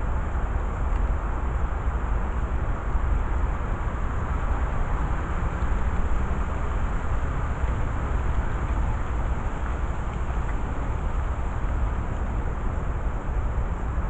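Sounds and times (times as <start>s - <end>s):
outdoor rumble and hiss: 0.0s - 14.0s.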